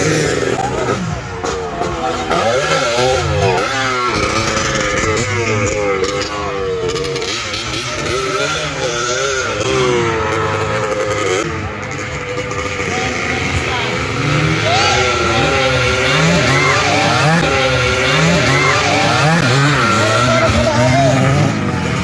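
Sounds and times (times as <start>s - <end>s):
motocross motorcycles revving: 0.0s - 22.0s.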